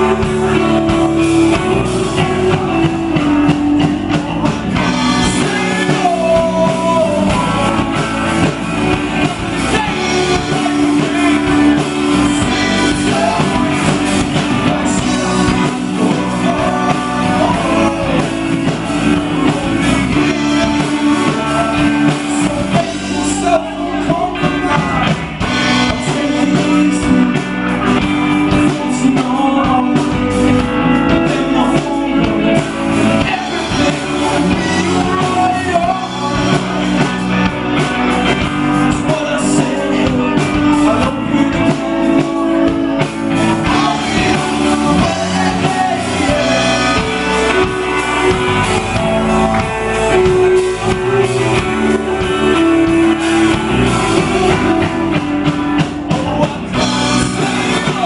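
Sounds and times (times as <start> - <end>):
electric guitar: 0.0 - 58.0
person singing: 0.0 - 58.0
rock band playing: 0.0 - 58.0.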